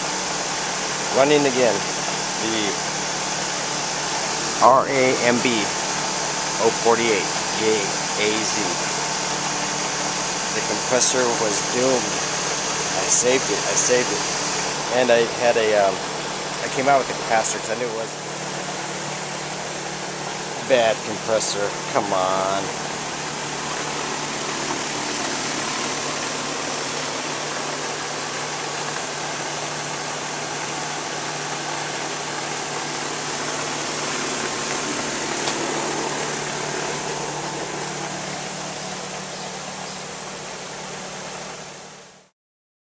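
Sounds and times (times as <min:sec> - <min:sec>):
condenser fan air rush: 0:00.0 - 0:42.1
compressor hum: 0:00.0 - 0:42.3.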